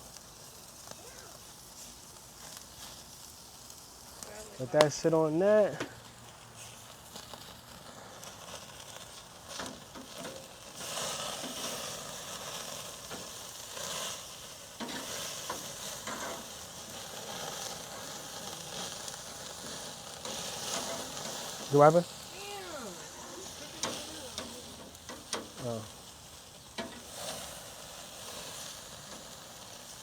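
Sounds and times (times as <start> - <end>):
meat sizzling on grill: 0.0 - 30.0.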